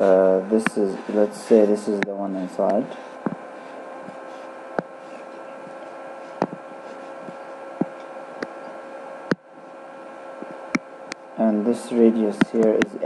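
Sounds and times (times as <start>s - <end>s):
electrical hum and hiss: 0.0s - 13.0s
thin whine tones: 0.0s - 13.0s.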